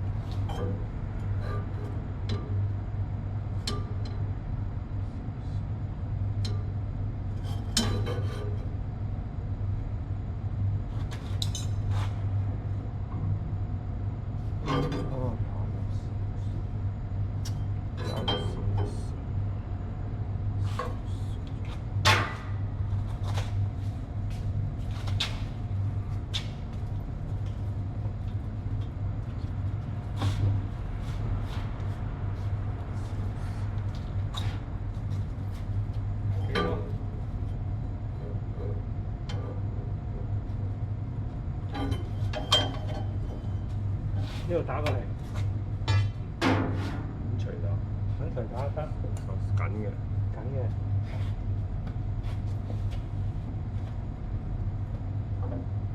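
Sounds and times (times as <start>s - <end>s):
low machinery hum: 0.0s - 55.9s.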